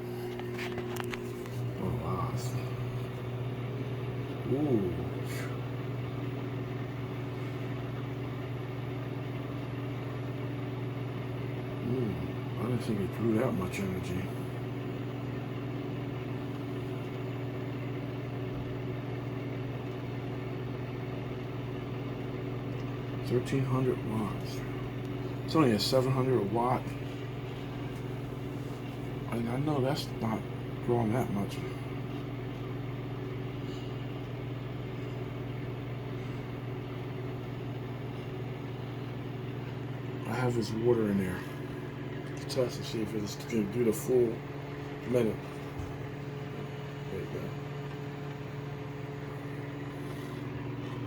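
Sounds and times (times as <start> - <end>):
microwave fan noise: 0.0 - 51.0
microwave oven humming: 0.0 - 51.0.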